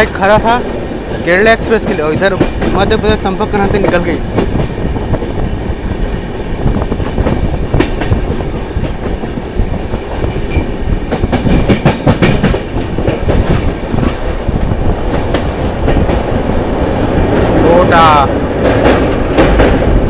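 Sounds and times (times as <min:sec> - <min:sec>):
train wheel and wind rush: 0:00.0 - 0:20.0.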